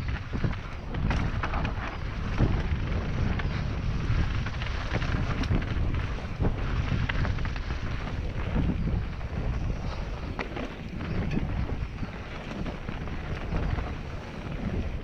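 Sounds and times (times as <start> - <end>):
bike clicks and rattles: 0.0 - 15.0
bike tyres rolling on dirt: 0.0 - 15.0
wind buffeting microphone: 0.0 - 15.0.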